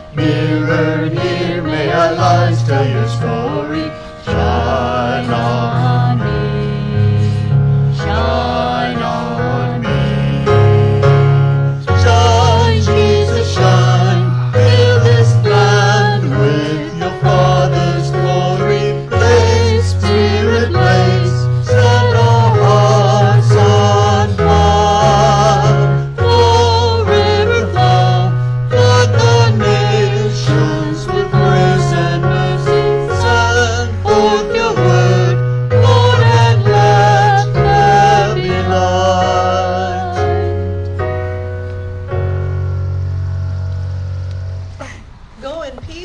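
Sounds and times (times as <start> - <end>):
person singing a hymn: 0.0 - 41.0
electric keyboard: 0.0 - 46.0.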